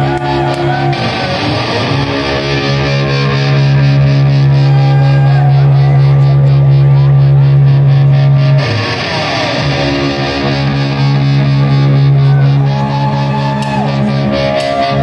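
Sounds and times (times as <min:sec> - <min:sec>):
distorted electric guitar chord: 0:00.0 - 0:15.0
hard rock band playing: 0:00.0 - 0:15.0.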